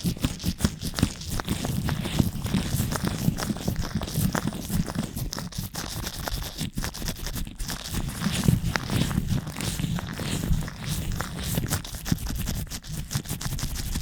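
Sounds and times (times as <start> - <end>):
gloved hands rubbing on microphone: 0.0 - 14.0.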